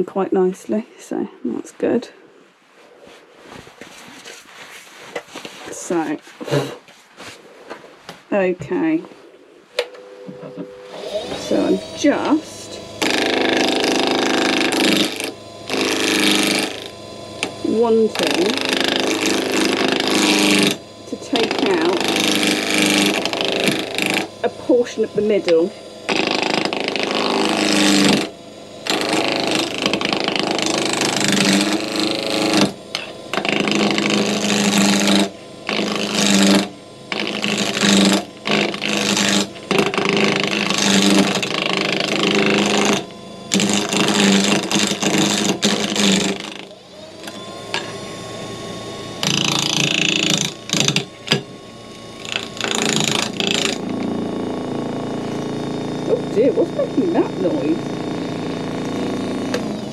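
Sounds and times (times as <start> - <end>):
wood lathe spinning: 2.8 - 7.9, 9.1 - 59.9
turning tool cutting wood: 3.7 - 8.0, 8.6 - 59.9
rising whine: 9.1 - 59.9.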